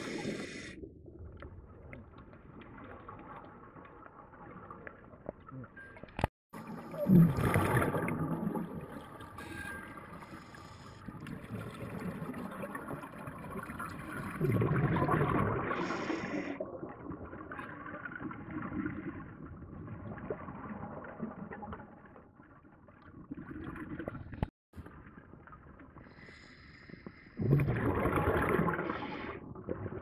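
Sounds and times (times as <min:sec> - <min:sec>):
underwater bubbling: 0:00.0 - 0:30.0
water noise: 0:00.0 - 0:30.0.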